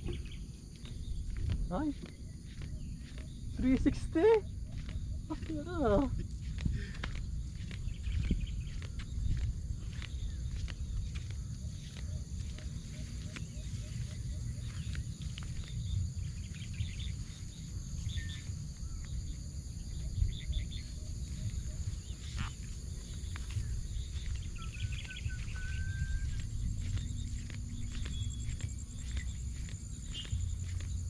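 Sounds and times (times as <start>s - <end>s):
bird chirps: 0.0s - 5.6s, 7.5s - 31.0s
high insect drone: 0.0s - 31.0s
wind rumbling on microphone: 0.0s - 31.0s.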